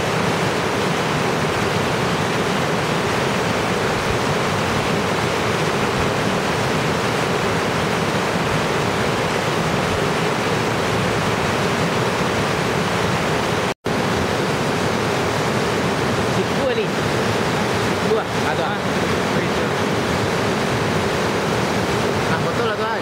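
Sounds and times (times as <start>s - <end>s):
river rushing over boulders: 0.0s - 23.0s.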